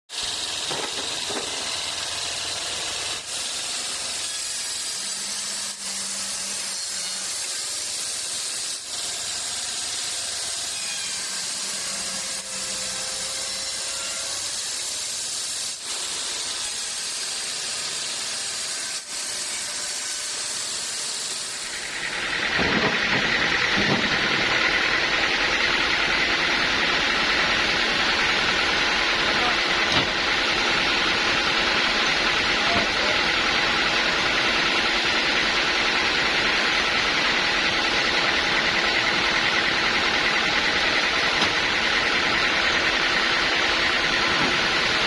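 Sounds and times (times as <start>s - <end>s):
saw cutting logs: 0.1s - 45.0s
motor running: 0.2s - 4.3s, 8.8s - 18.0s, 20.3s - 45.0s.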